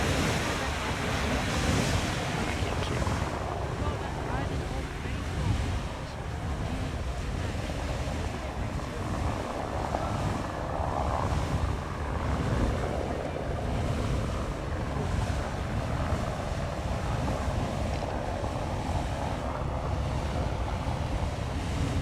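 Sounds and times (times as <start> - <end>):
geyser water column rushing: 0.0 - 22.0
wind buffeting microphone: 0.0 - 22.0.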